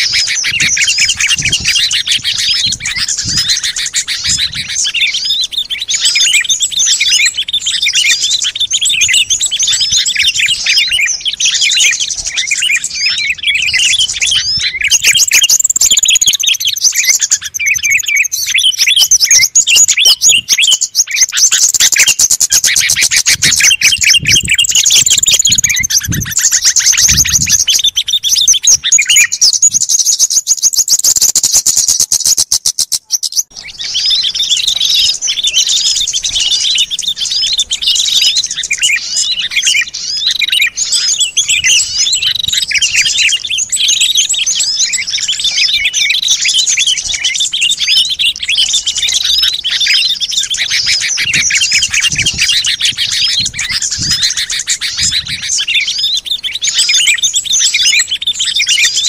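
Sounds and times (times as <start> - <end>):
fast rattling bird trill: 0.0 - 59.0
small songbirds chirping: 0.0 - 59.0.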